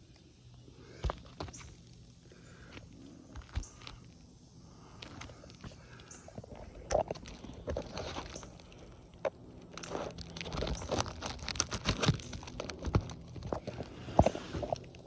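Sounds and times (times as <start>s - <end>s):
shingles crunching and scraping: 0.8s - 4.2s, 4.8s - 15.0s.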